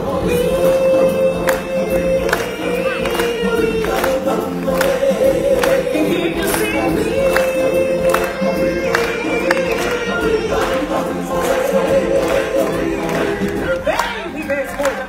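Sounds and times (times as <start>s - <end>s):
choir singing long notes: 0.0s - 14.2s.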